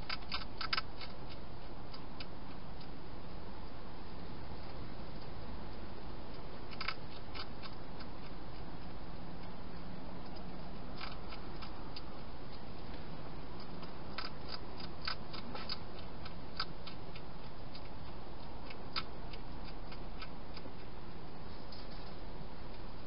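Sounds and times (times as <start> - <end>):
hedgehog crunching dry food: 0.0 - 3.8, 4.6 - 23.0
steady background hiss: 0.0 - 23.0.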